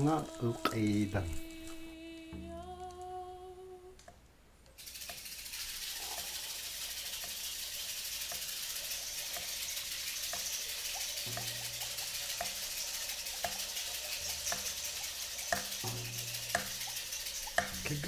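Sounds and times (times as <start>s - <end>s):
running water hissing: 0.0s - 3.8s, 4.8s - 18.0s.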